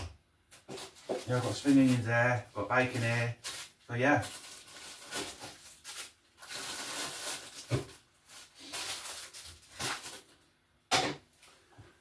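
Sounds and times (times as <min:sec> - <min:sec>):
rustling kitchen items: 0:00.5 - 0:12.0.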